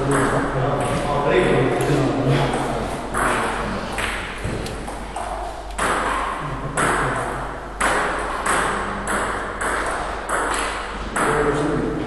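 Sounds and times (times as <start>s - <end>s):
table tennis ball bouncing: 0.0s - 1.1s, 2.6s - 11.6s.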